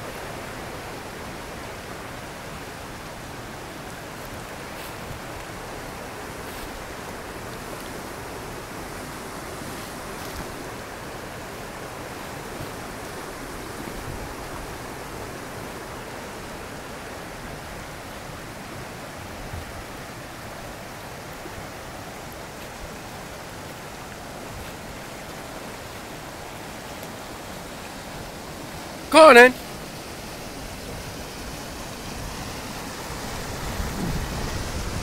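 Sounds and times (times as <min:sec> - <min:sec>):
river rushing: 0:00.0 - 0:35.0.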